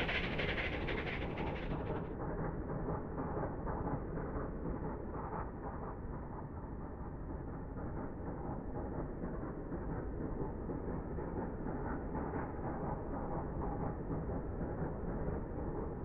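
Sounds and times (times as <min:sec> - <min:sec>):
steam locomotive working hard: 0:00.0 - 0:16.0.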